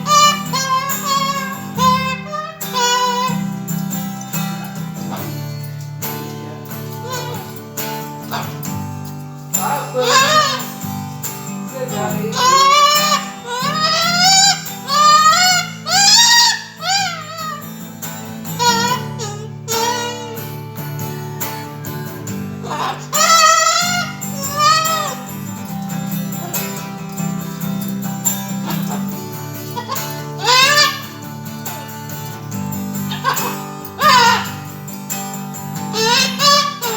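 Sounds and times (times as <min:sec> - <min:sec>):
cockatoo vocalising: 0:00.0 - 0:36.9
guitar playing: 0:00.0 - 0:36.9.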